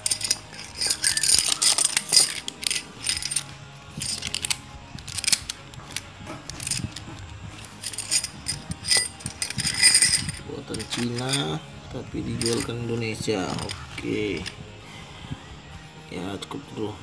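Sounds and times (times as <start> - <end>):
metal tent pegs clinking: 0.0 - 14.6.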